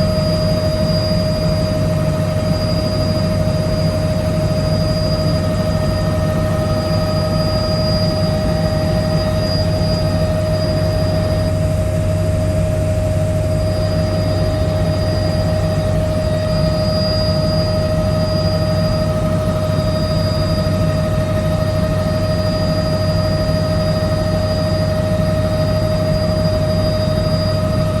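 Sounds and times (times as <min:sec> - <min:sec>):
helicopter rotor and turbine: 0:00.0 - 0:28.0.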